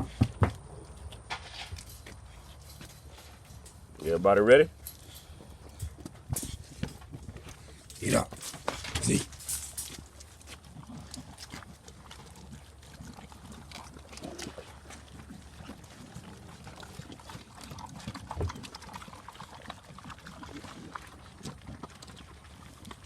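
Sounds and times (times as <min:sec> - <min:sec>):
dogs chewing and smacking: 0:00.0 - 0:23.0.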